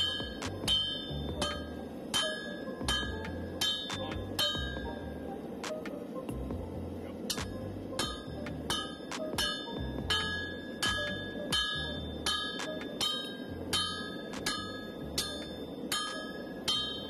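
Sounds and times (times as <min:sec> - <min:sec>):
sledgehammer striking metal on anvil: 0:00.0 - 0:05.0, 0:07.3 - 0:17.0.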